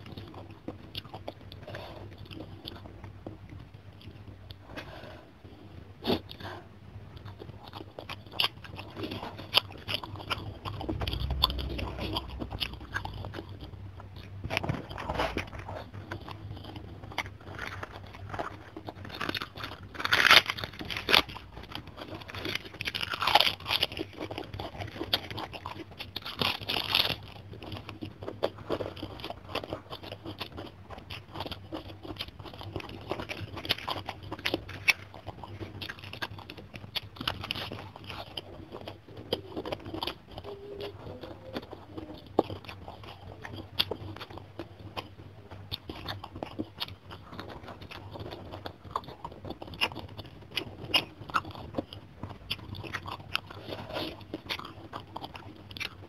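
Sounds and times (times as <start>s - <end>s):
person chewing with mouth clicks: 0.0s - 56.0s
crunching cabbage leaf: 7.2s - 56.0s.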